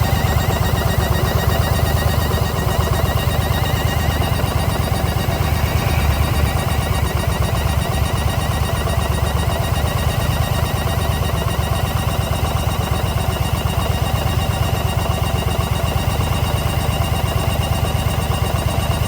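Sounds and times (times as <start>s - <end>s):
motorcycle engine idling: 0.0s - 16.8s.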